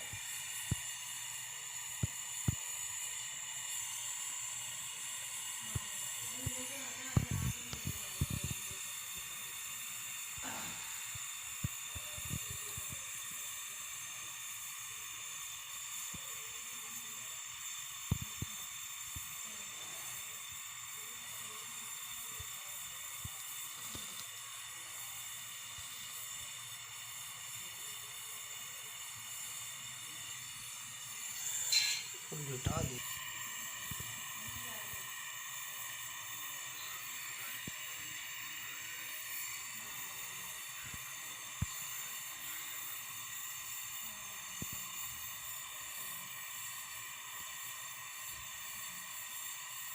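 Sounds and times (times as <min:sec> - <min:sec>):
gas torch flame hissing: 0:00.0 - 0:49.9.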